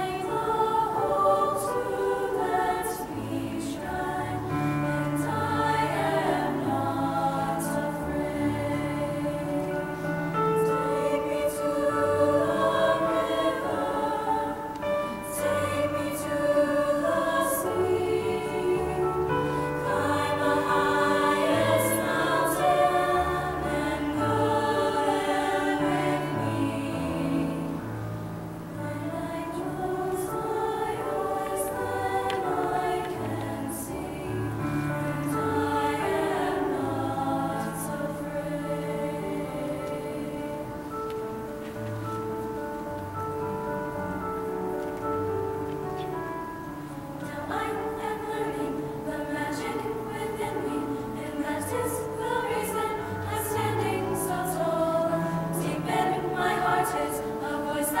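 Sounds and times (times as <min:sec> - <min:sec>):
female choir singing: 0:00.0 - 0:42.2, 0:45.1 - 0:58.0.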